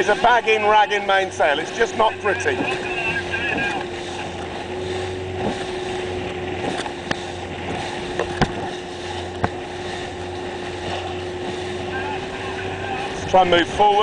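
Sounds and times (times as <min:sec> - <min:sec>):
motorboat engine humming: 0:00.0 - 0:14.0
water noise: 0:00.0 - 0:14.0
wind: 0:00.0 - 0:14.0.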